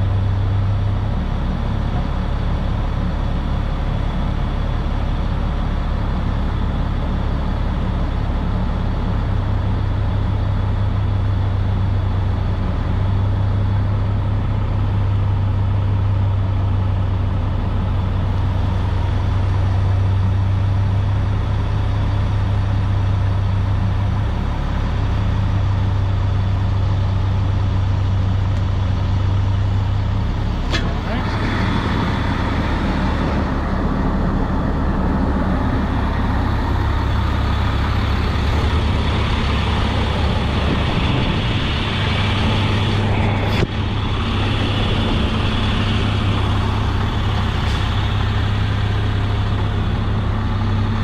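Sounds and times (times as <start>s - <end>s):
diesel truck engine humming: 0.0s - 51.0s.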